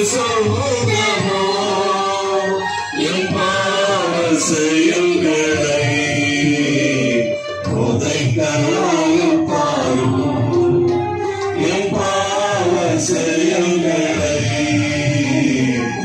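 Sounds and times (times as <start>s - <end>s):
voices singing a hymn: 0.0s - 16.0s.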